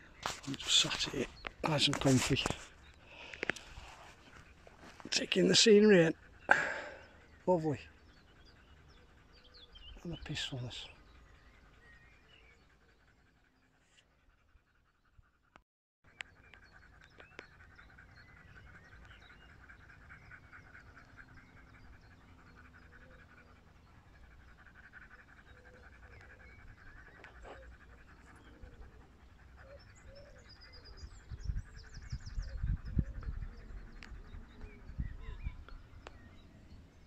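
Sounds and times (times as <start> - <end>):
dog panting: 0.1 - 15.6, 16.2 - 36.7.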